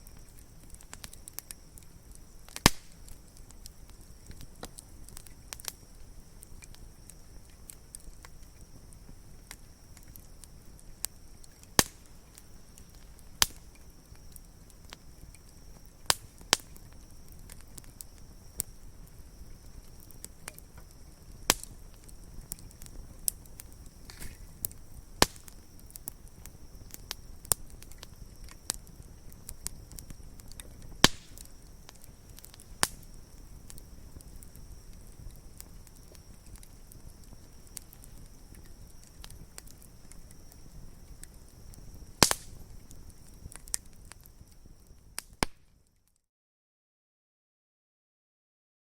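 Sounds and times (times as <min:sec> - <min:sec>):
campfire crackling: 0:00.0 - 0:46.2.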